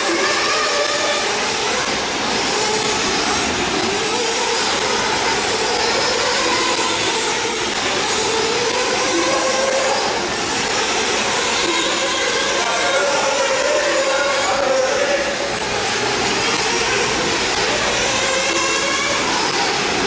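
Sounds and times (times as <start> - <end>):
rc car engines revving: 0.0 - 20.0.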